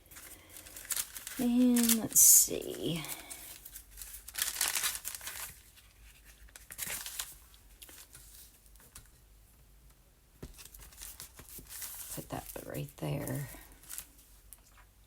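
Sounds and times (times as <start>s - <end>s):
paper crinkling and rustling: 0.0s - 9.2s, 10.4s - 15.0s.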